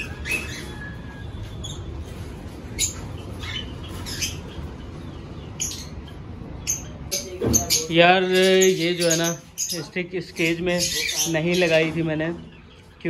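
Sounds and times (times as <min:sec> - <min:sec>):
parrots chirping: 0:00.0 - 0:12.9.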